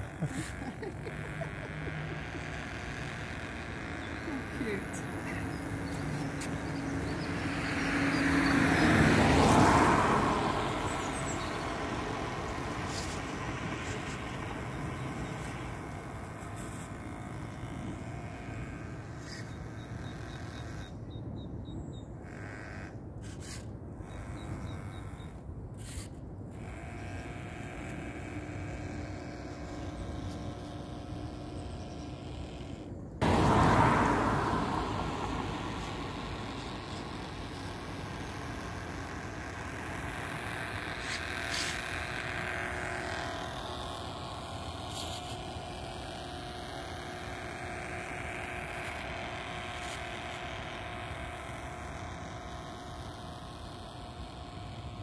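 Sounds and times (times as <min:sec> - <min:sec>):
small electric motor and propeller whirring: 0:00.0 - 0:55.0.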